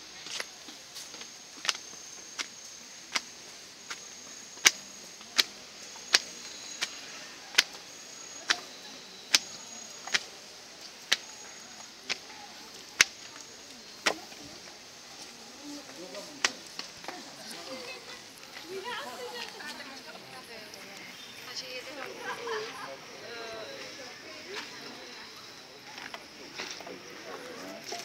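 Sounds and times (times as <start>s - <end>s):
footsteps on stone steps: 0.0s - 22.9s, 23.5s - 28.0s.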